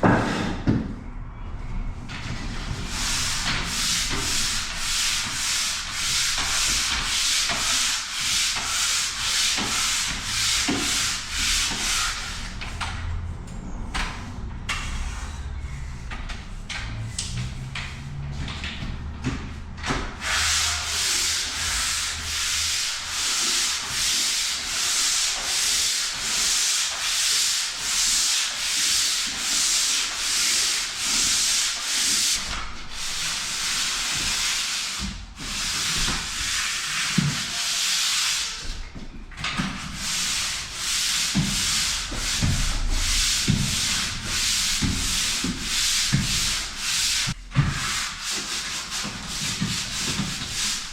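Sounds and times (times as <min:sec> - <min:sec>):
sander scraping plaster wall: 0:02.1 - 0:13.3, 0:14.8 - 0:50.9.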